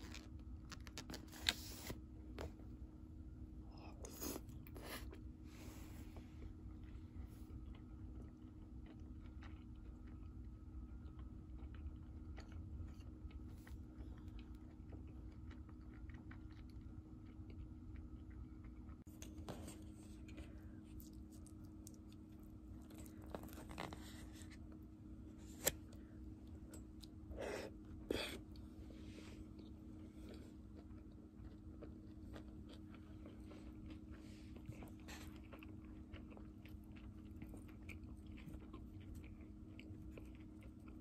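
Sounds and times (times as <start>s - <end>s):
steady low hum: 0.0s - 41.0s
chewing: 6.4s - 24.6s, 25.5s - 41.0s.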